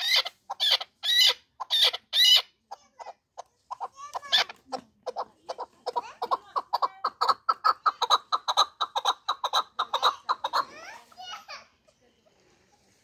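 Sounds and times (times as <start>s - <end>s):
partridge clucking calls: 0.0s - 11.0s.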